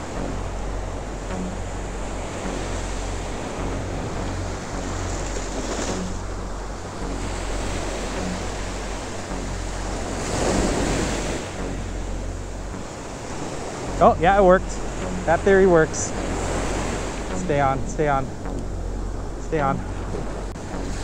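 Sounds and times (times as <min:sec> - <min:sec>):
ocean surf breaking: 0:00.0 - 0:21.0
wind rumble on microphone: 0:00.0 - 0:21.0.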